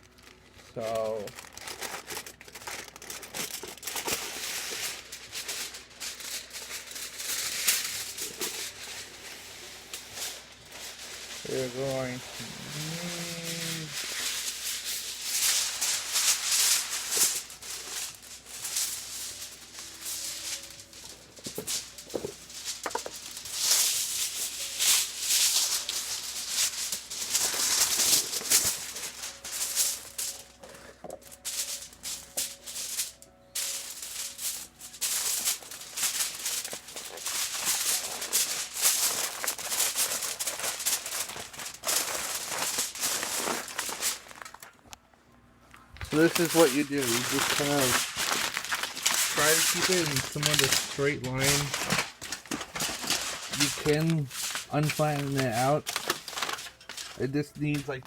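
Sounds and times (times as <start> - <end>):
aluminium foil crinkling: 0.0 - 45.0, 45.6 - 58.0.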